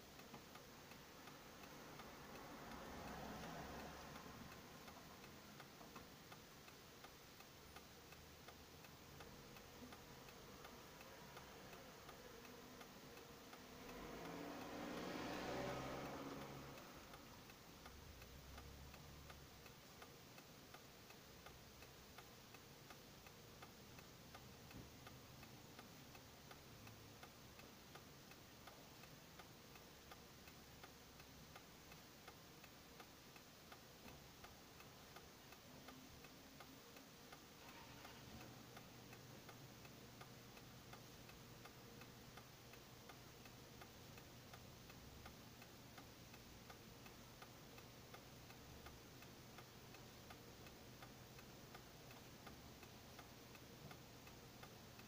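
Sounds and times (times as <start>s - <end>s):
faint low hum: 0.0s - 55.0s
indicator flasher ticking: 0.0s - 55.0s.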